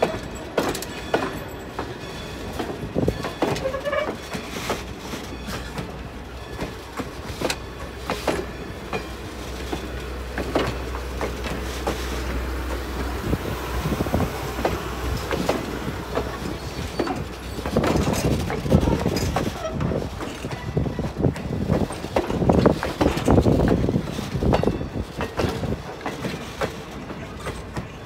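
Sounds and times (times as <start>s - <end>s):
train low rumble: 0.0s - 28.0s
train wheels clicking over rail joints: 0.0s - 28.0s.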